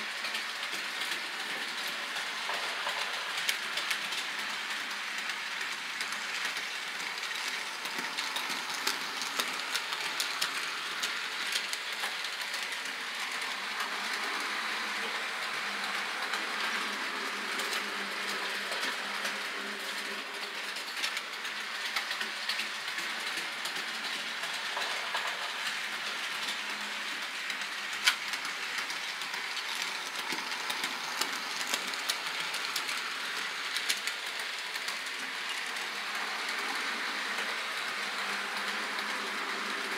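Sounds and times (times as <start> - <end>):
model train wheels clattering on rails: 0.0 - 39.9.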